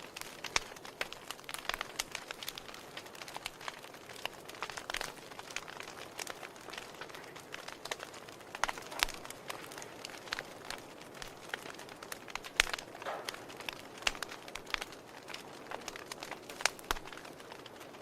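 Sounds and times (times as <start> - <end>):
flames hissing: 0.0 - 17.9
wood fire crackling: 0.0 - 18.0.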